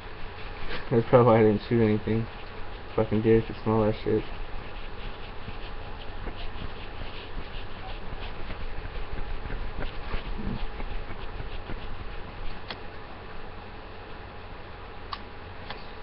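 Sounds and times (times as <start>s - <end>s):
microphone hiss and hum: 0.0s - 16.0s.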